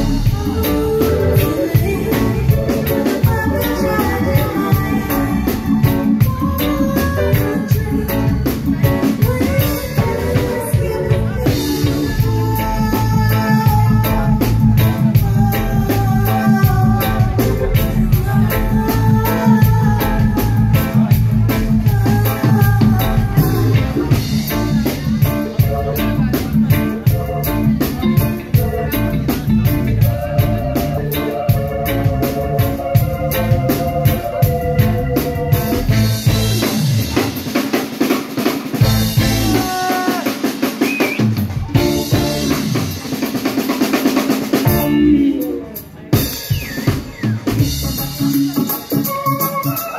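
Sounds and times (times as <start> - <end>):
reggae band playing: 0.0 - 49.9.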